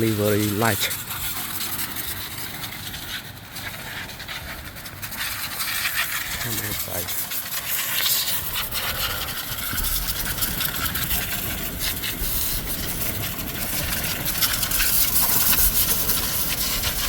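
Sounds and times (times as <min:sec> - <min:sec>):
hiss with crackles: 0:00.0 - 0:17.0
tractor engine rumbling: 0:00.0 - 0:17.0.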